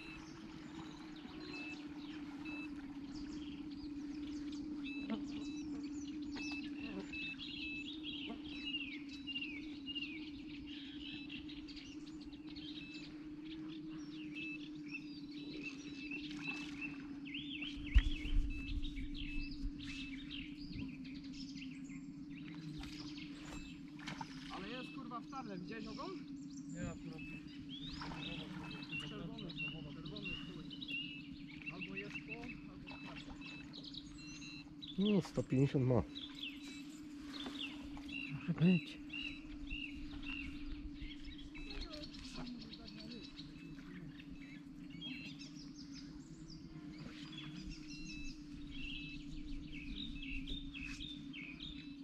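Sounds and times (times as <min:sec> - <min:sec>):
low hum: 0:00.0 - 0:52.0
small birds chirping: 0:00.0 - 0:52.0.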